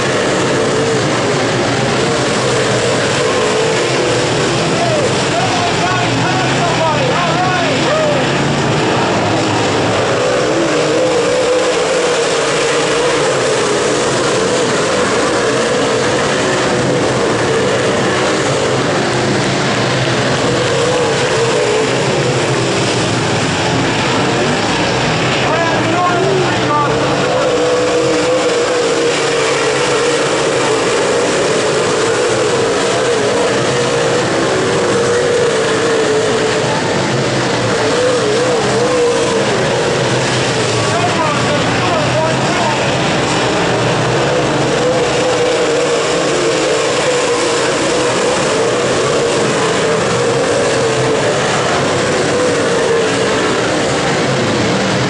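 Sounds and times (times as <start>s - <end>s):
race car engines roaring: 0.0s - 55.0s.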